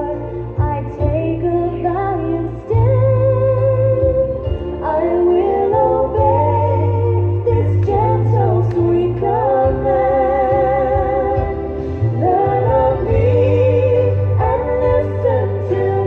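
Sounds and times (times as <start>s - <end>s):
instrumental accompaniment with bass: 0.0s - 16.0s
woman singing with vibrato: 0.0s - 16.0s.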